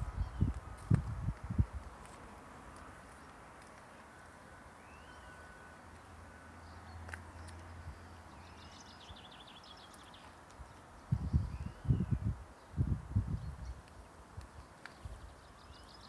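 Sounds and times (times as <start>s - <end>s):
birds chirping: 0.0s - 0.6s, 2.7s - 16.0s.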